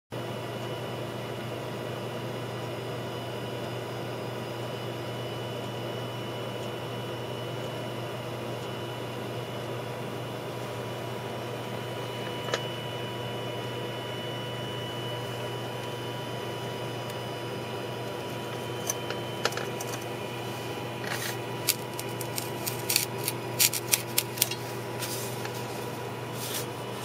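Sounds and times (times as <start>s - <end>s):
steady low hum: 0.2s - 27.0s.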